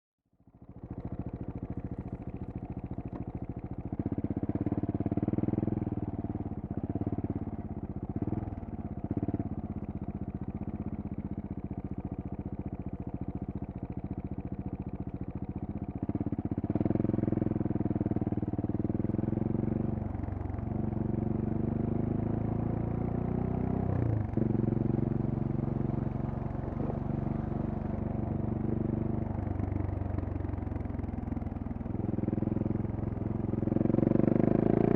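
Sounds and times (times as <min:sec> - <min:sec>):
motorcycle engine revving: 0:00.6 - 0:34.9.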